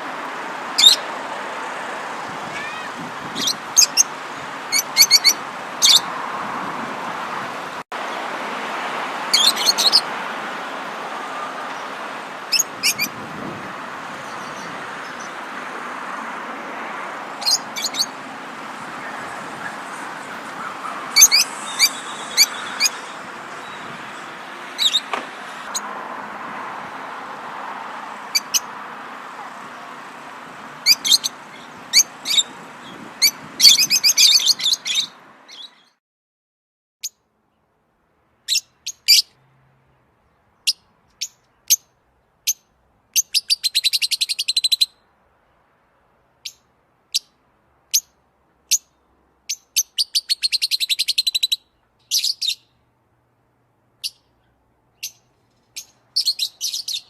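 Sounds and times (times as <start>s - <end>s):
songbirds chirping: 0.0s - 36.0s, 38.4s - 57.0s.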